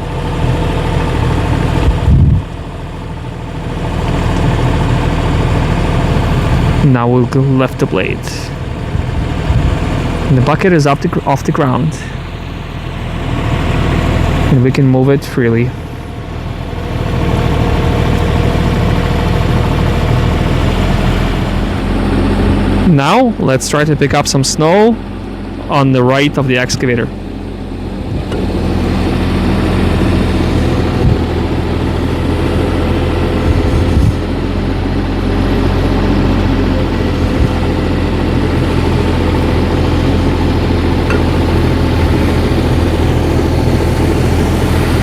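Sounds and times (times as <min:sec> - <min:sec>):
excavator engine running: 0:00.0 - 0:45.0
hydraulics working: 0:00.0 - 0:45.0.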